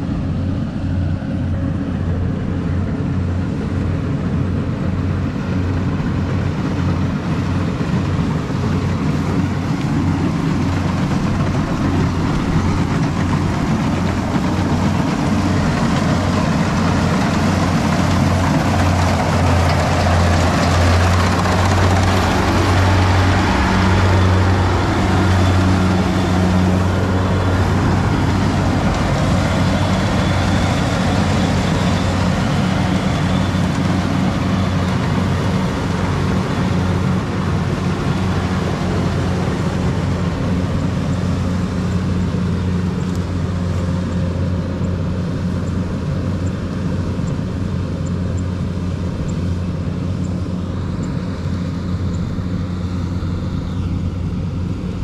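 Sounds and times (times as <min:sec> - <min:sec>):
harvester engine drone: 0:00.0 - 0:55.0.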